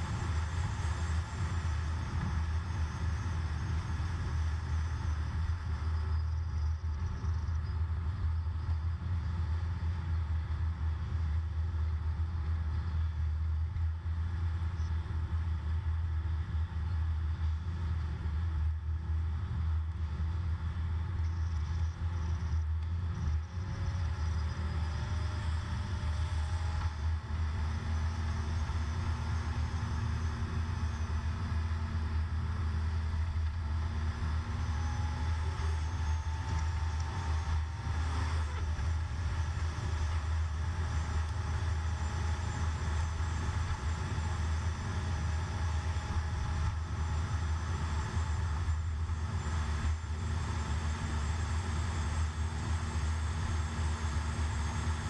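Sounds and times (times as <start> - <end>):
car engine drone: 0.0 - 55.0
faint rising whine: 0.0 - 55.0.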